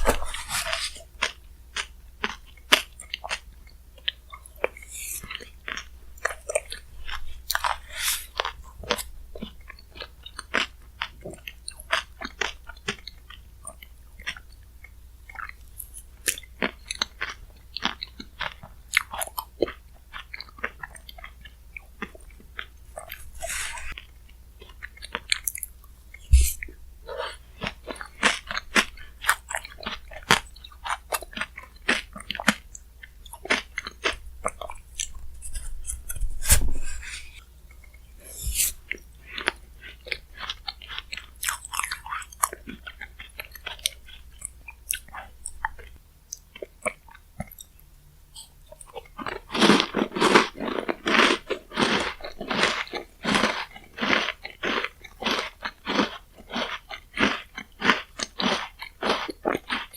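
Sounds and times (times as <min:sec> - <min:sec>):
chewing and crunching: 0:00.0 - 0:59.9.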